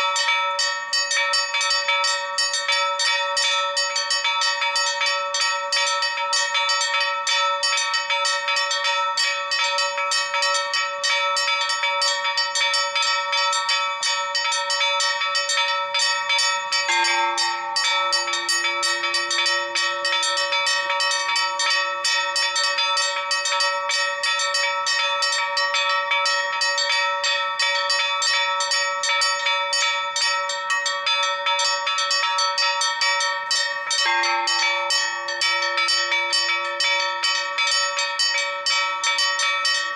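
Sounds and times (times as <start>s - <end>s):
church bells pealing: 0.0s - 39.9s
deep bell tone: 0.0s - 39.9s.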